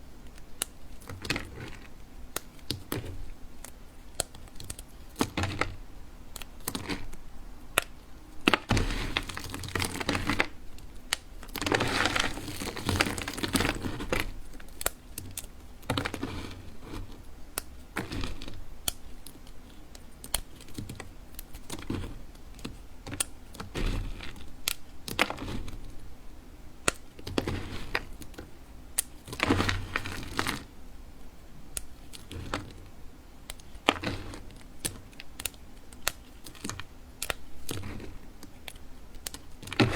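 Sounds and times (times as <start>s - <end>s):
blade crunching bar soap: 0.2s - 26.1s, 26.8s - 30.8s, 31.7s - 39.9s.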